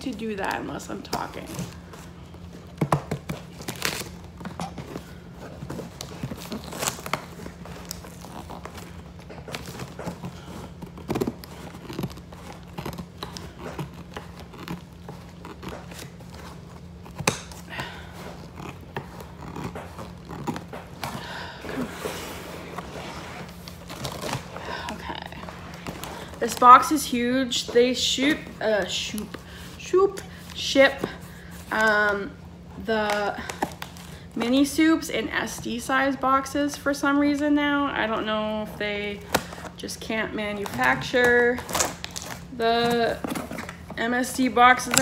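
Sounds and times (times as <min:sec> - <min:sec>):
cardboard and paper rustling: 0:00.0 - 0:35.8, 0:38.6 - 0:45.0
steady low hum: 0:00.0 - 0:45.0.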